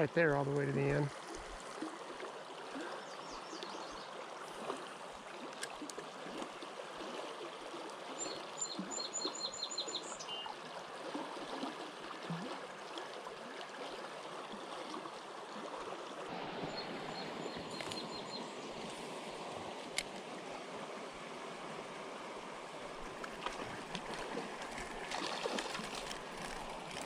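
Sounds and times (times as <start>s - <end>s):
river water running: 0.0s - 27.0s.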